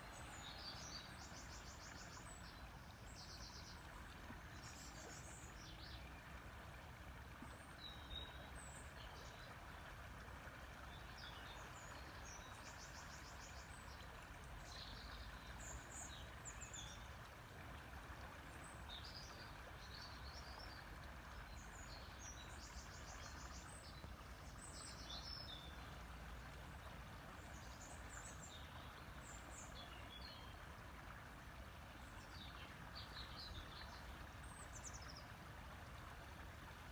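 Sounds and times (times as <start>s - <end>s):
river water flowing: 0.0s - 36.9s.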